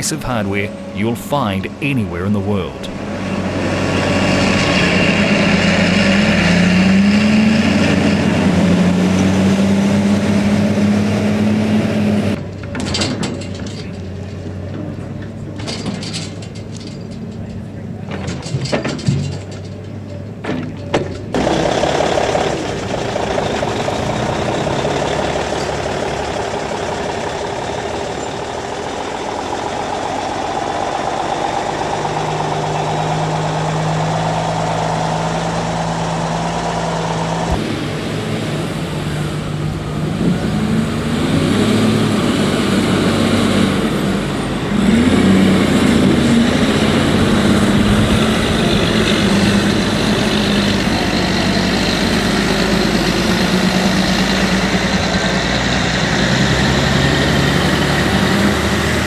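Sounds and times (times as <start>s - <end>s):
diesel truck engine droning: 0.0s - 59.0s
diesel truck pulling away: 0.0s - 59.0s.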